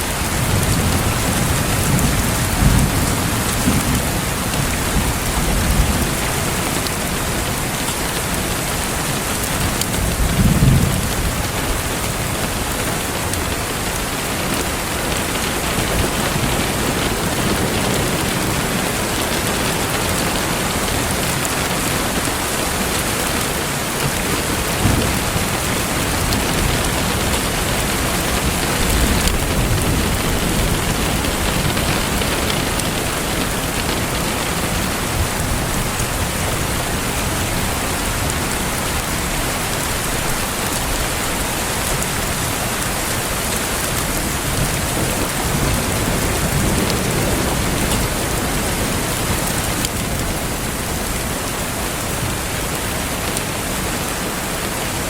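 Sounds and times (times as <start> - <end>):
heavy rain: 0.0 - 55.0
thunder rumbling: 0.1 - 51.3.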